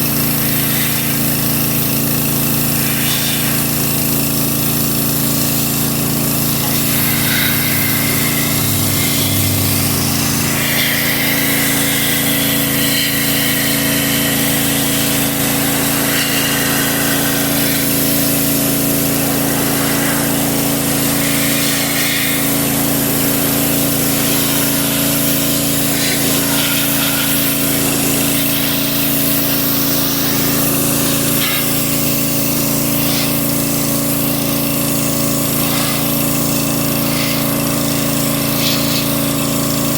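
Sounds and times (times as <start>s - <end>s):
pressure washer humming: 0.0s - 39.9s
water jet hissing on metal: 0.0s - 39.9s.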